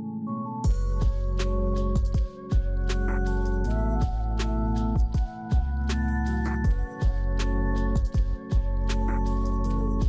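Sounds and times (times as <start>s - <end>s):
electronic music with deep beat: 0.6s - 10.0s.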